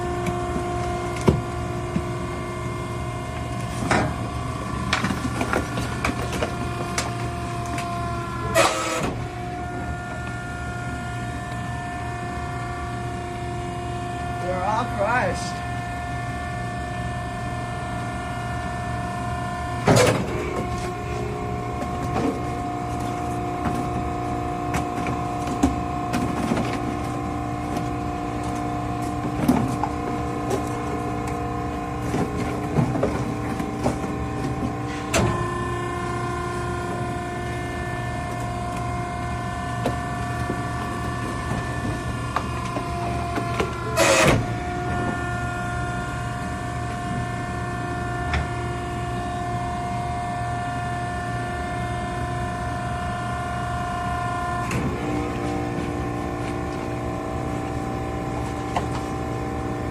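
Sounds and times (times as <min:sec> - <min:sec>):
hydraulic power unit whining: 0:00.0 - 0:59.9.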